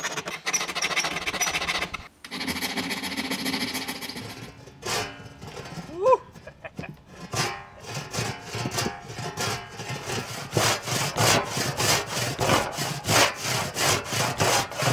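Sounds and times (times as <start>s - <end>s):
hand saw sawing wood: 0.0s - 6.0s, 6.8s - 14.9s.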